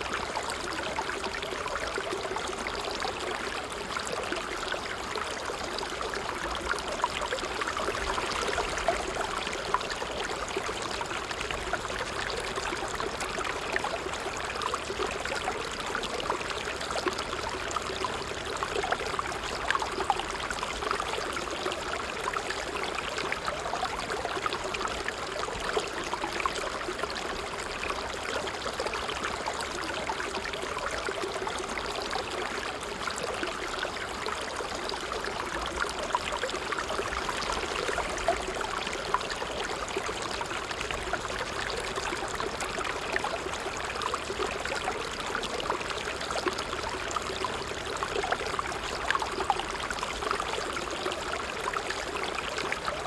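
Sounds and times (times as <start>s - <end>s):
water babbling over stones: 0.0s - 53.0s.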